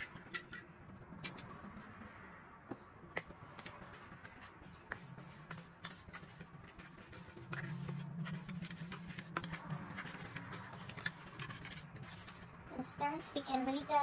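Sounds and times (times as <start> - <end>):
spoon stirring in metal bowl: 0.0 - 2.2, 3.1 - 14.0.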